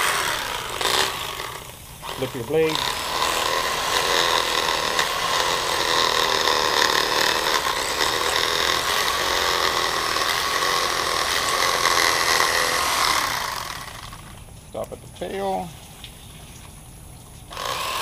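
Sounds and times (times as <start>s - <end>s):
electric fillet knife whining: 0.0s - 14.4s, 17.5s - 18.0s.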